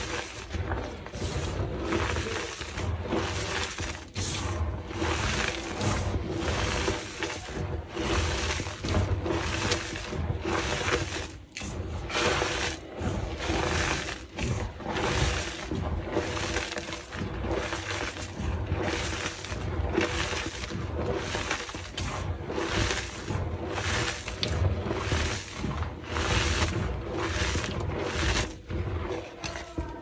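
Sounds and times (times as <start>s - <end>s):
hands crumbling chalk: 0.0s - 30.0s.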